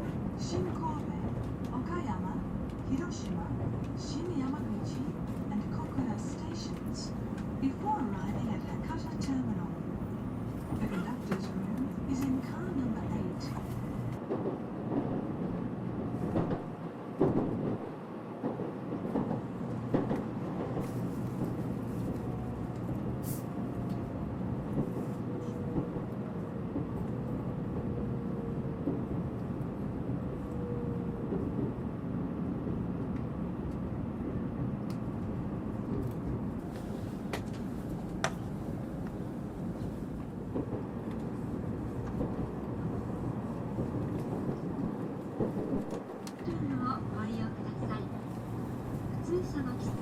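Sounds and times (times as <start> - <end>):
train carriage running noise: 0.0 - 50.0.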